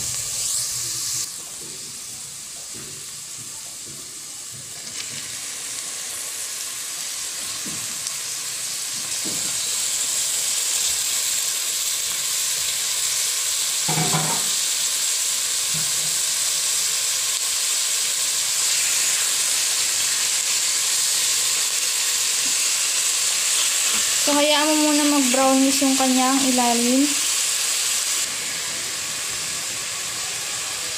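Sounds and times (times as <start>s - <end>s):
meat sizzling in hot oil: 0.0s - 30.9s.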